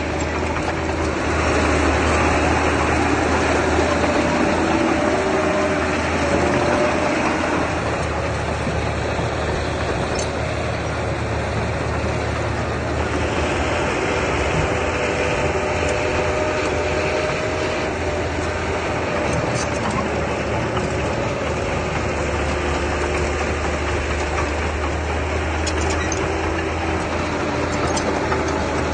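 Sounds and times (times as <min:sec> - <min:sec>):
heavy machinery diesel engine running: 0:00.0 - 0:28.9.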